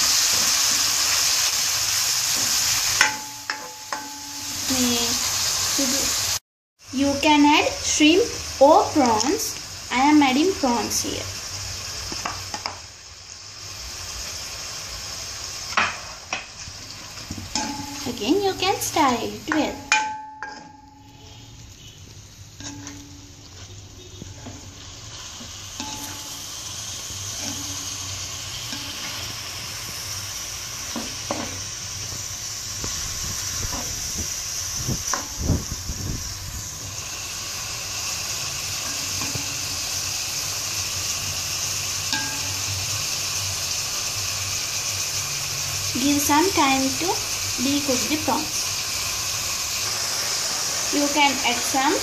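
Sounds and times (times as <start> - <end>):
food sizzling in oil: 0.0 - 52.0.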